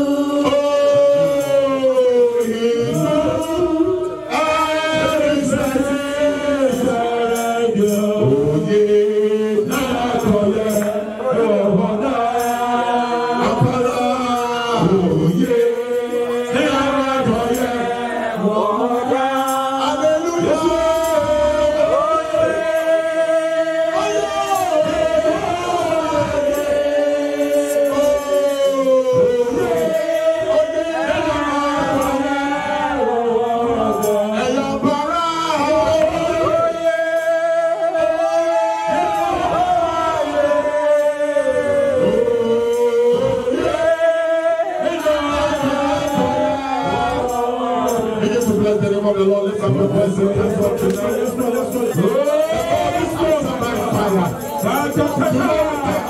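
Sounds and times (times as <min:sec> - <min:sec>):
musical backing: 0:00.0 - 0:56.0
voices singing worship song: 0:00.0 - 0:56.0.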